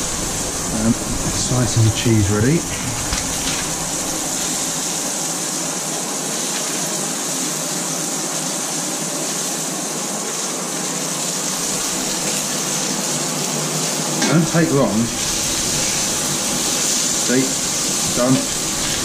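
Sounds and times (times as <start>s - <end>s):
burger patties sizzling in a pan: 0.0s - 19.0s.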